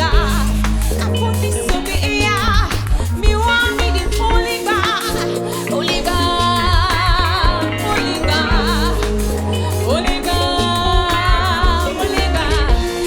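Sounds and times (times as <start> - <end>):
bass and drums: 0.0 - 13.0
woman singing with vibrato: 0.0 - 13.0.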